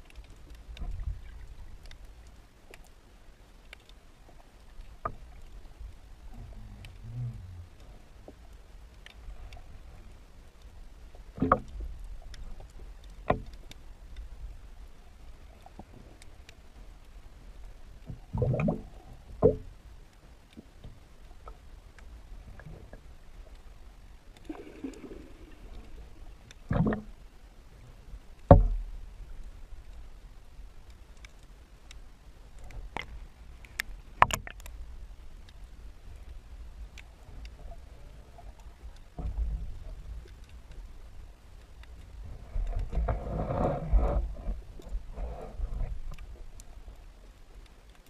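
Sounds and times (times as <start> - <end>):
faint scattered clicks: 0.0 - 48.0
low underwater rumble: 4.2 - 47.7.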